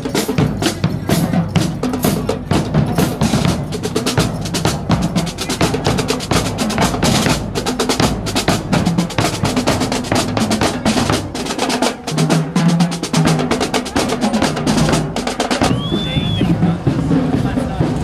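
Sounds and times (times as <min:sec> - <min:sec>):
snare drum strokes and rolls: 0:00.0 - 0:18.0.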